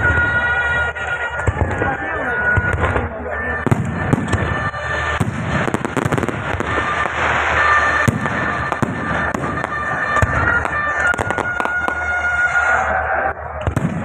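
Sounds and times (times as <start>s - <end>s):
fireworks crackling and popping: 0.0s - 14.0s
fireworks whistling: 0.0s - 14.0s.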